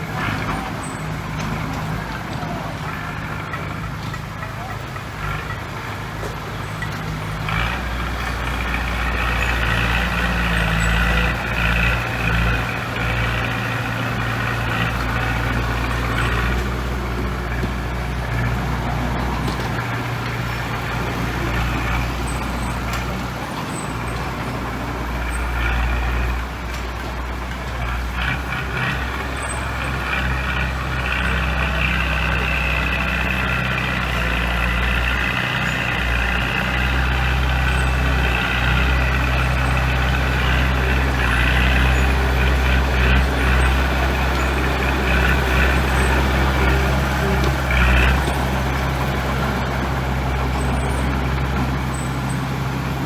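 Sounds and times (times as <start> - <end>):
diesel machinery engine drone: 0.0 - 53.0.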